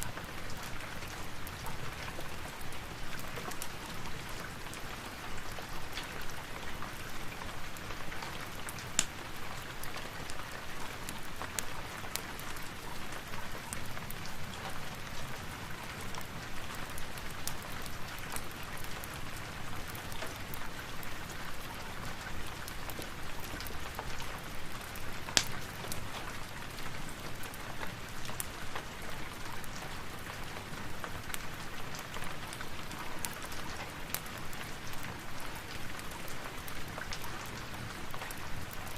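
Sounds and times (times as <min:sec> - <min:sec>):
steady rain hiss: 0:00.0 - 0:38.9
wood fire crackling: 0:00.0 - 0:38.9.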